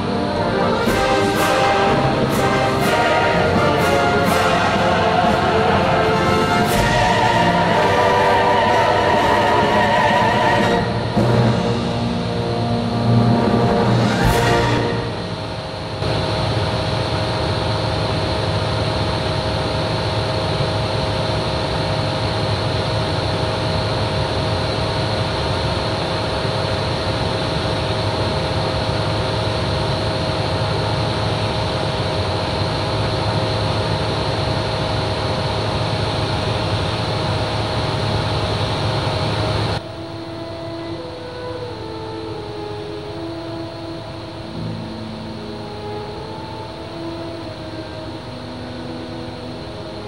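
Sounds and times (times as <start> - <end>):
aircraft engine droning: 0.0 - 50.0.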